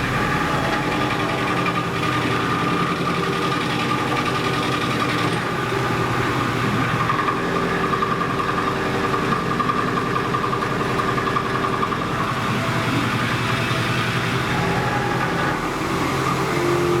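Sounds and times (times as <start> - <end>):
milling machine running: 0.0 - 17.0.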